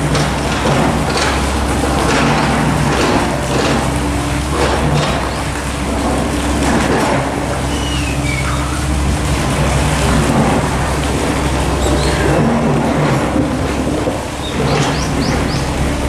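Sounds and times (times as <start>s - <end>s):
construction machinery engine drone: 0.0s - 16.0s
loud rushing noise: 0.0s - 16.0s.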